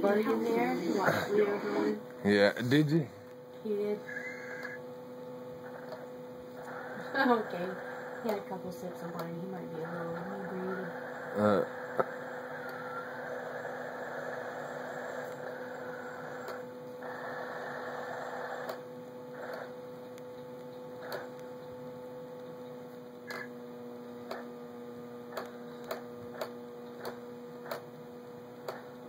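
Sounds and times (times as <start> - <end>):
steady hum with hiss: 0.0 - 29.0.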